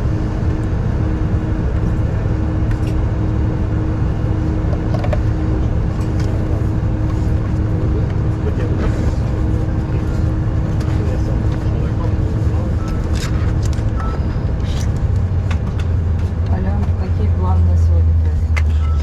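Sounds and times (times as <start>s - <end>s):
constant hum: 0.0s - 19.0s
moving vehicle rumble: 0.0s - 19.0s.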